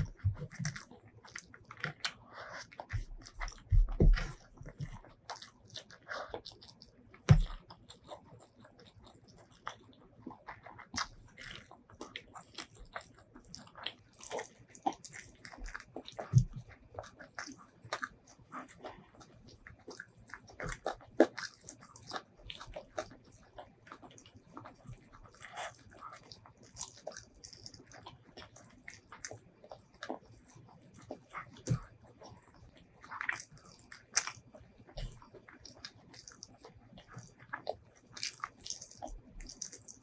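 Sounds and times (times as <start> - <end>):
fingers squishing through rice: 0.0 - 40.0
wet chewing and lip smacks: 0.0 - 40.0.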